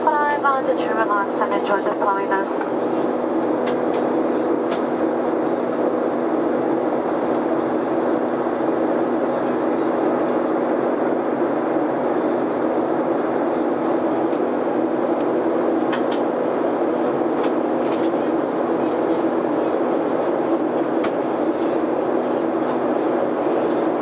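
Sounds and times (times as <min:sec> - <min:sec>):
constant low hum: 0:00.0 - 0:24.0
jet engines and rushing airflow: 0:00.0 - 0:24.0.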